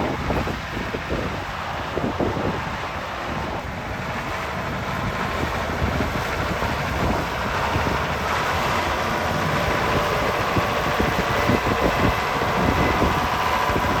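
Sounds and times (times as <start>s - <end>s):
tractor diesel engine running: 0.0s - 14.0s
wind buffeting microphone: 0.0s - 14.0s.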